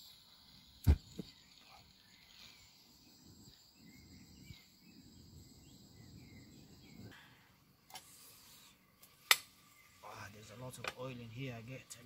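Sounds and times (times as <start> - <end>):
faint chirps: 0.0 - 12.0.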